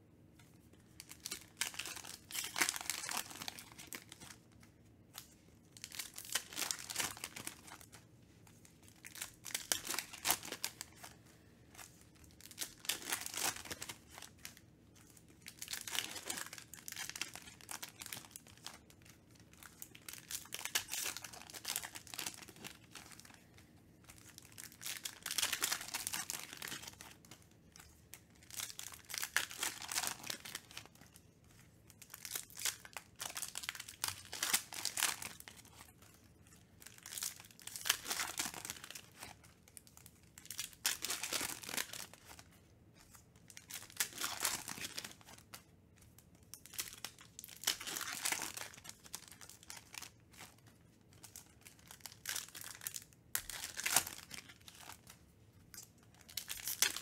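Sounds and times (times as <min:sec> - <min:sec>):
wrappers torn and crinkled: 0:00.9 - 0:04.6, 0:05.2 - 0:08.0, 0:08.8 - 0:31.2, 0:31.8 - 0:57.0.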